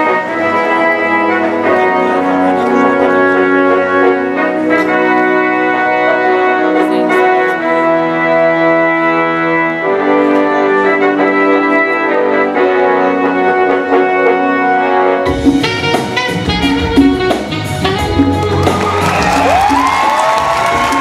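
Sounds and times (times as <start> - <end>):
live band playing slow ballad: 0.0 - 21.0.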